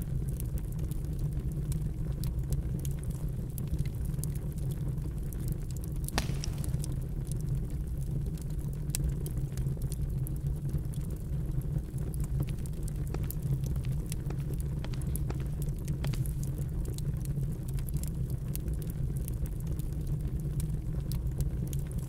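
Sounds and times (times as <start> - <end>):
low steady fire rumble: 0.0 - 22.0
wood fire crackling: 0.0 - 22.0.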